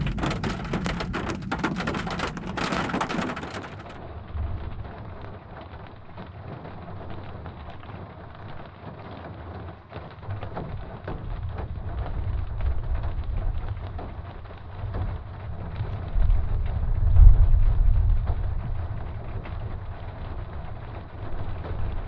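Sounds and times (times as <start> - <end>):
low thunder rumble: 0.0 - 8.7, 10.2 - 22.0
rain falling: 0.0 - 22.0.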